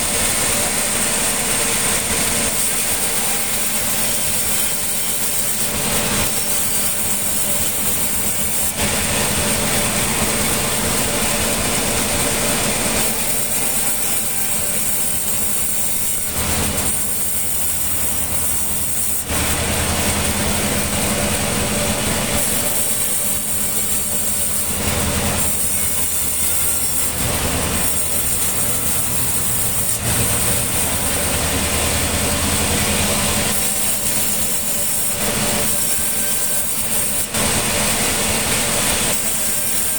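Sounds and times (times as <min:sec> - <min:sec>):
engine hum: 0:00.0 - 0:36.1
saw rasping through logs: 0:00.0 - 0:39.9.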